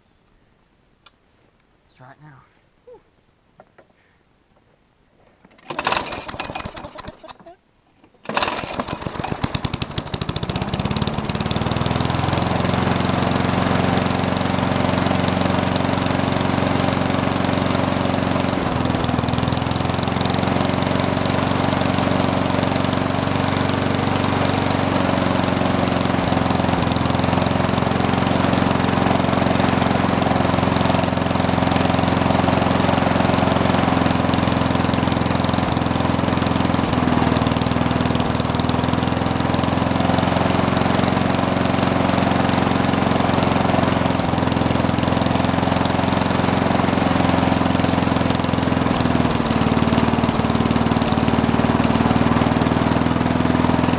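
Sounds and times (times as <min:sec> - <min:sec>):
lawn mower engine running: 0:05.4 - 0:53.9.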